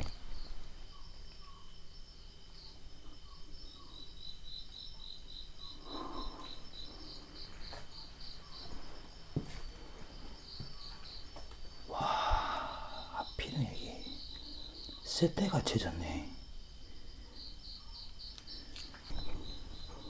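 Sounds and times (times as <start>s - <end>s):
crickets chirping: 0.0s - 20.0s
high insect trill: 0.0s - 20.0s.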